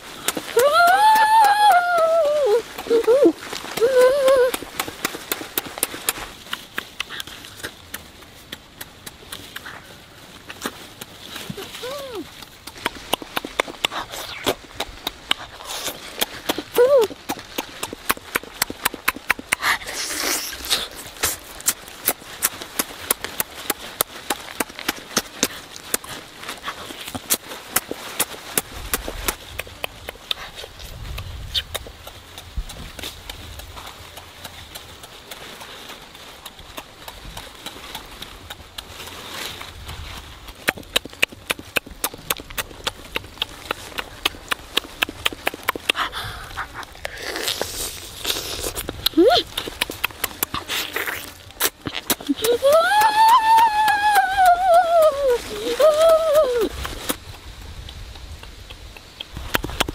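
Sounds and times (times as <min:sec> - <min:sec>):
wet chewing and lip-smacking: 0:00.0 - 0:59.9.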